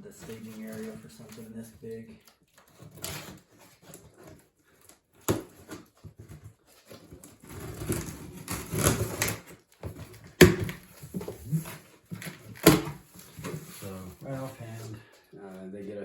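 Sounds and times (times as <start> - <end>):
cardboard and packing rustling: 0.0 - 15.7.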